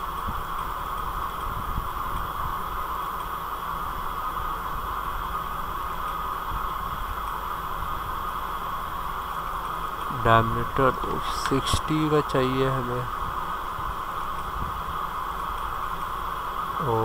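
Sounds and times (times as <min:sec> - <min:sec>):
microphone hiss: 0:00.0 - 0:17.0.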